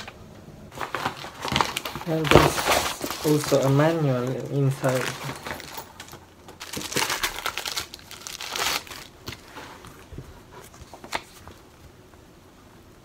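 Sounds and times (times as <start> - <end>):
paper rustling: 0.0 - 11.9.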